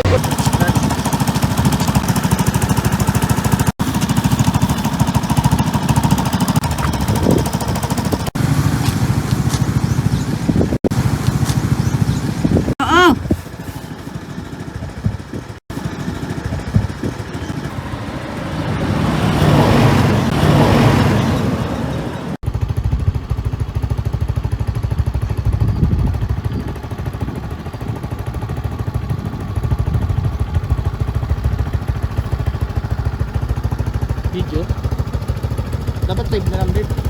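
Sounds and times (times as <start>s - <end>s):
scooter engine pulsing: 0.0s - 37.0s.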